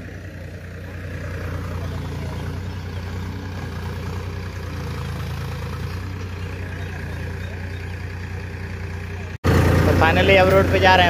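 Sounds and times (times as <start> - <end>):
tractor diesel engine humming: 0.0 - 11.0.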